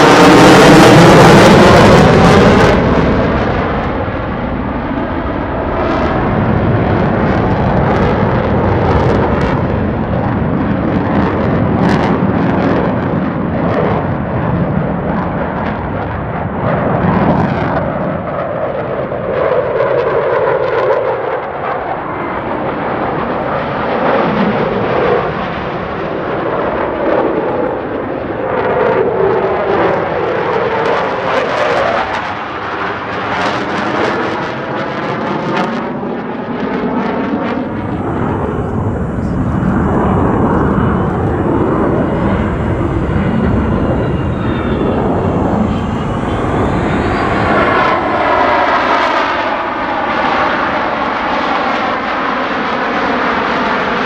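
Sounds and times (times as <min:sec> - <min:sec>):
jets flying past roaring: 0:00.0 - 0:54.0.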